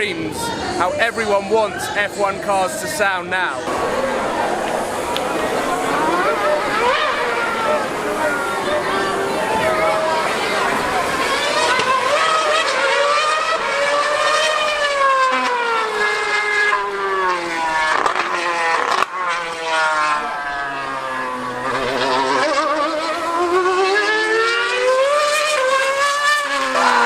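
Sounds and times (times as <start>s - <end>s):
racing car engine screaming: 3.6s - 27.0s.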